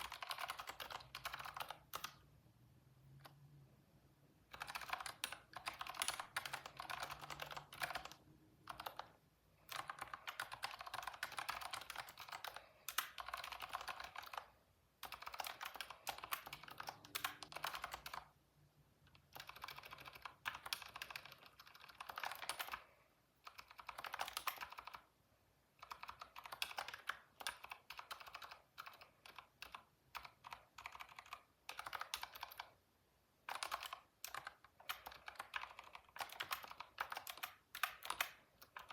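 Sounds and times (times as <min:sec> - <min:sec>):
computer keyboard typing: 0:00.0 - 0:02.3, 0:04.5 - 0:18.4, 0:19.1 - 0:25.1, 0:25.8 - 0:32.8, 0:33.4 - 0:38.9.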